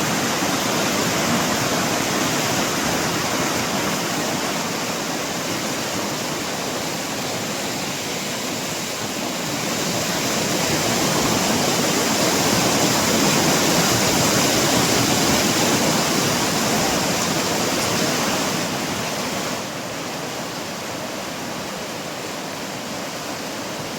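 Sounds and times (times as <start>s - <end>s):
stream rushing: 0.0s - 23.9s.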